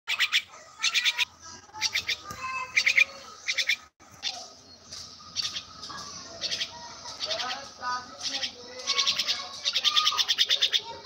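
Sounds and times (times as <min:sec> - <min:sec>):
bird chirping: 0:00.1 - 0:11.0.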